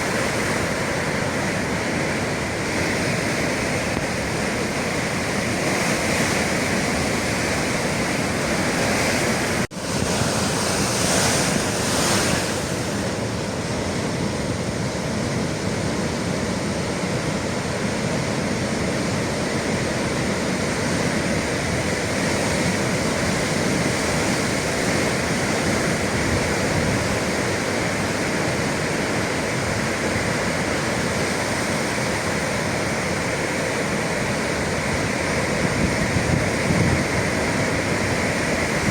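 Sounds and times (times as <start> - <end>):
waves breaking on shore: 0.0 - 38.9
wind on microphone: 0.0 - 38.9.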